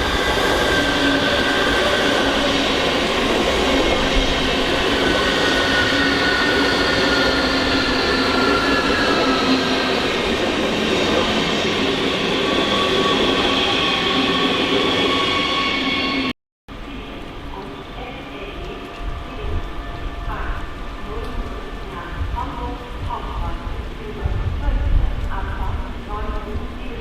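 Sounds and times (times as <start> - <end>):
train rolling noise: 0.0 - 27.0.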